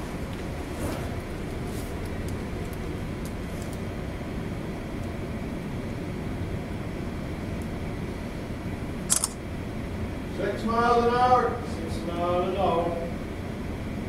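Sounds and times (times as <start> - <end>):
ship engine low rumble: 0.0 - 14.0.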